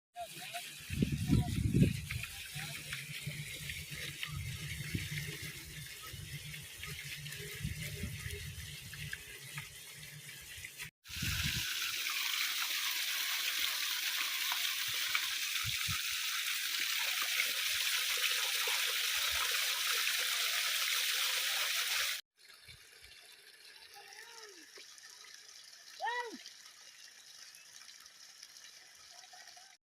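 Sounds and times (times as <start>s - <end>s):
water rushing: 0.2s - 26.9s.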